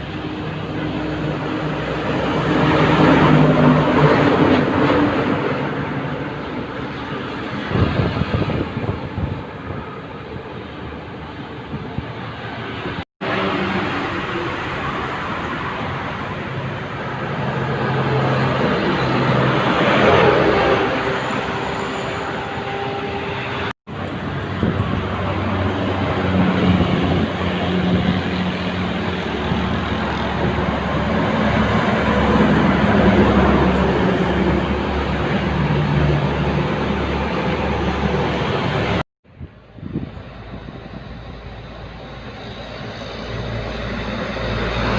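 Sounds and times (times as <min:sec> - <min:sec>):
trucks passing on highway: 0:00.0 - 0:44.9.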